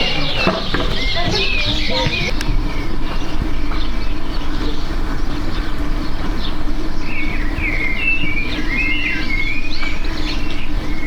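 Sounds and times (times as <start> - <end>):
birds chirping: 0.0 - 11.0
faint hum: 0.0 - 11.0.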